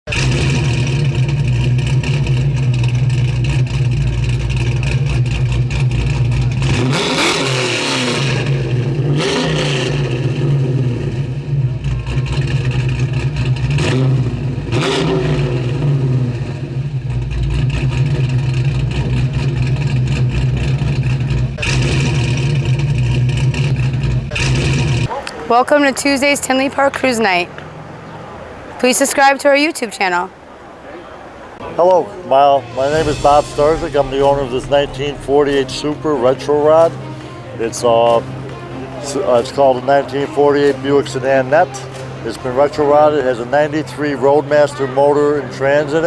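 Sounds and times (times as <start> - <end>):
car engine idling: 0.1 - 14.9, 15.8 - 26.9, 30.3 - 46.0.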